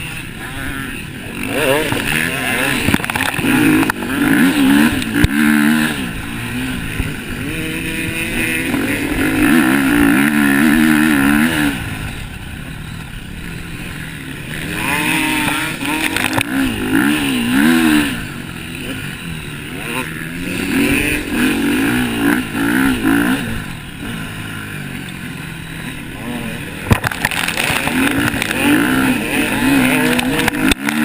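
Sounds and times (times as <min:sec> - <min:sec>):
motocross bike engines revving: 0:00.0 - 0:31.0.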